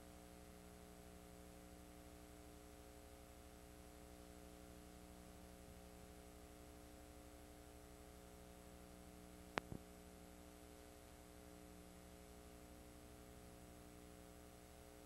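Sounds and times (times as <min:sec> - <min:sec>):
faint electrical hum with hiss: 0:00.0 - 0:15.0.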